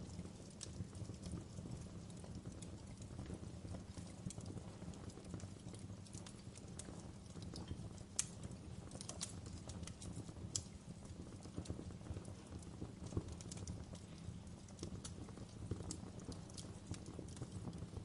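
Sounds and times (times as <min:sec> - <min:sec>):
burning wood crackling and popping: 0:00.0 - 0:18.0
campfire low rumble: 0:00.0 - 0:18.0.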